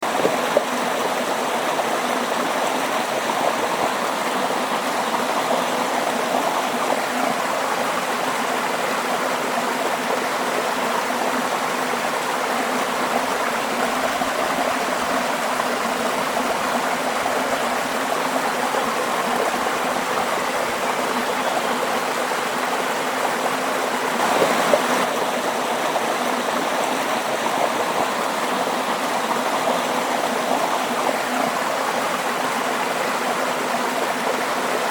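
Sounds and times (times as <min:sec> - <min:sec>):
waterfall water pouring and splashing: 0:00.0 - 0:34.9.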